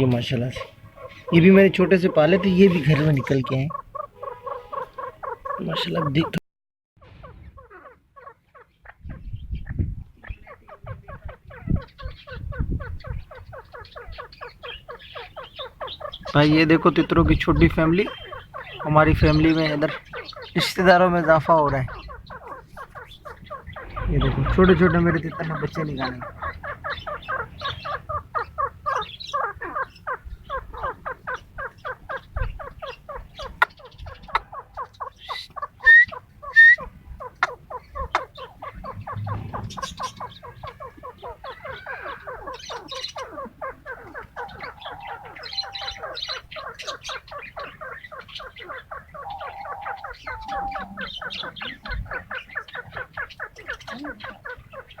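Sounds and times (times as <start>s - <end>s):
chicks cheeping: 0.0s - 6.4s, 7.1s - 55.0s
sharp upward bird calls: 0.0s - 6.4s, 11.5s - 55.0s.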